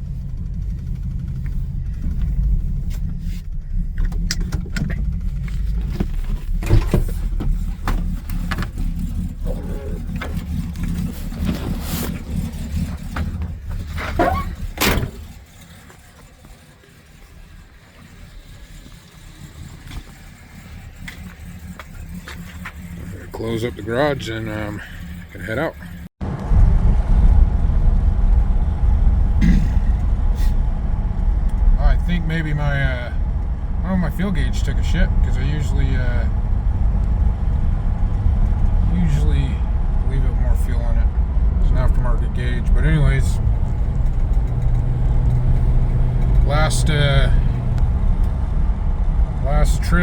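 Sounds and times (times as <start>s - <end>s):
car engine idling: 0.0s - 50.0s
engine knocks and clatters: 0.0s - 50.0s.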